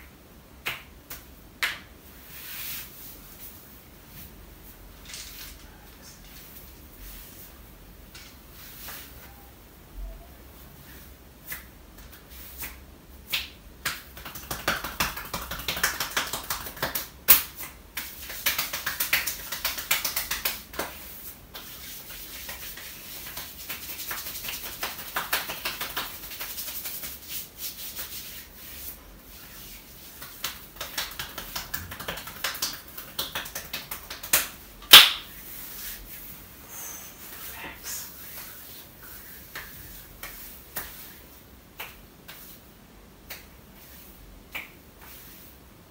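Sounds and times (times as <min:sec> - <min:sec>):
hands rubbing skin: 0:06.2 - 0:09.4, 0:10.8 - 0:34.6, 0:35.2 - 0:45.6.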